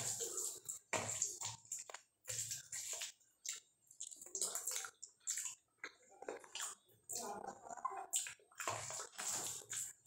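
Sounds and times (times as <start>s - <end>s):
wet squishing of rice: 0.0s - 10.0s.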